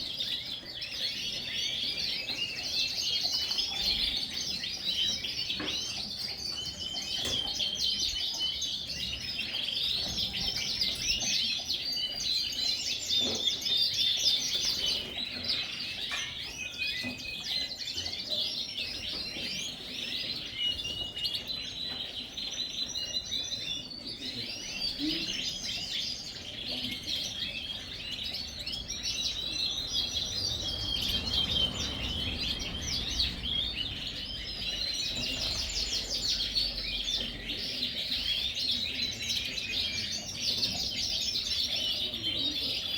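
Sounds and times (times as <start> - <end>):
canaries singing and chirping: 0.0 - 42.9.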